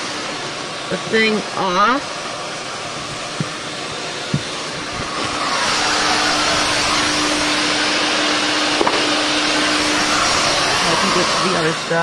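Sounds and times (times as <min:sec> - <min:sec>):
vacuum suction rush: 0:00.0 - 0:12.0.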